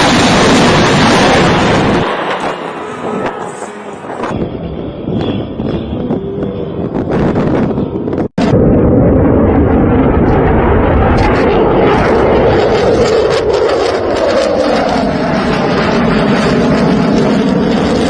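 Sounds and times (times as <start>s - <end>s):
military jet aircraft rush: 0.0s - 18.0s.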